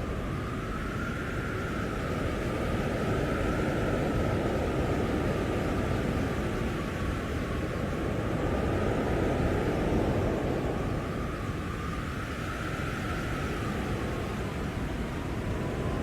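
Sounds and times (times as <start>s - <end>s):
blizzard wind gusting: 0.0s - 16.0s.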